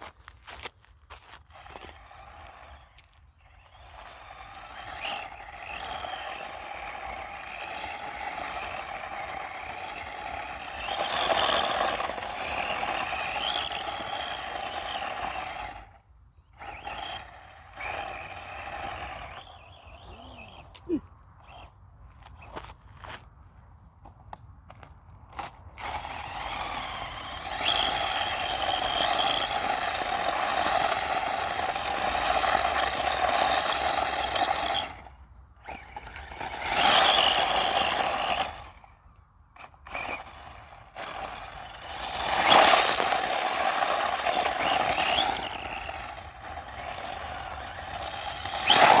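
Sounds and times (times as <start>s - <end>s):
faint electric motor whine: 0.0s - 23.2s, 24.0s - 49.0s
rc car tyres scrubbing: 1.1s - 16.0s, 16.6s - 20.6s, 25.4s - 38.9s, 39.6s - 49.0s.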